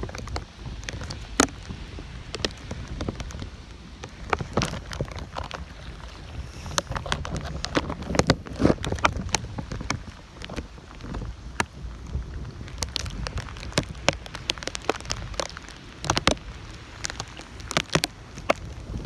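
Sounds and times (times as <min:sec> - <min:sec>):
raindrops tapping: 0:00.0 - 0:19.0
wind buffeting microphone: 0:00.0 - 0:19.0.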